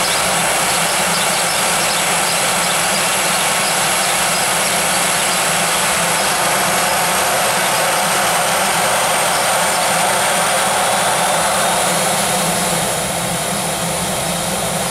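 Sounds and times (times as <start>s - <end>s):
jet engines running with high whine: 0.0s - 14.9s.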